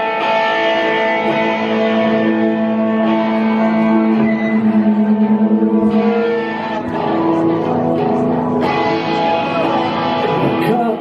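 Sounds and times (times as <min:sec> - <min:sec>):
wavering low guitar note: 0:00.0 - 0:10.8
live rock band playing: 0:00.0 - 0:11.0.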